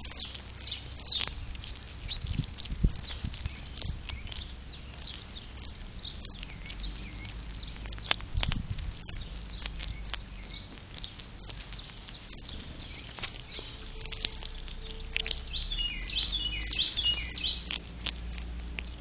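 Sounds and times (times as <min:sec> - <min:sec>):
clicks and scratches of seed: 0:00.0 - 0:19.0
small birds chirping: 0:00.0 - 0:19.0
squirrel chewing birdseed: 0:00.0 - 0:19.0.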